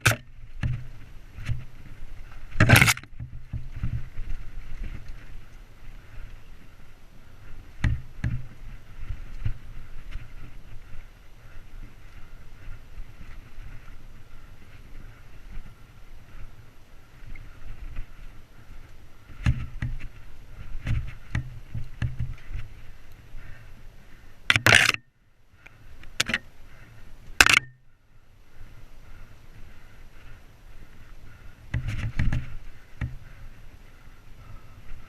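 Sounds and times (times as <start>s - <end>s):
bike tyres rumbling on trail: 0.0s - 24.5s, 25.5s - 35.0s
bike knocking and rattling: 0.0s - 25.1s, 25.7s - 27.9s, 29.6s - 35.0s.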